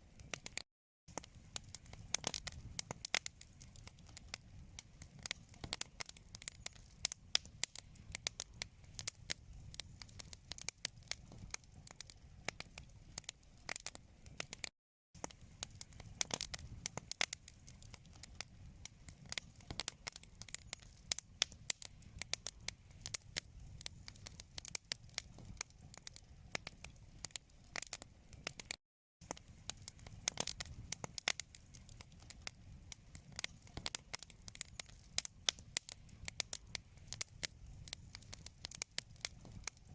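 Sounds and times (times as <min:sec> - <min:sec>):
fire pops and snaps: 0:00.0 - 0:39.9
low rumble of flame: 0:00.0 - 0:39.9.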